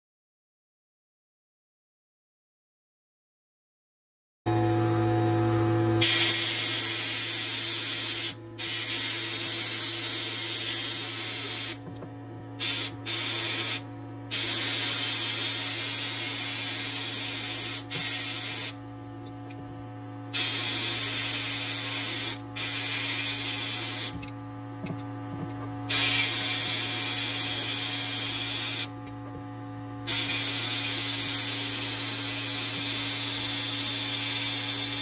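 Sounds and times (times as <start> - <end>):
steady low hum: 4.5 - 35.0.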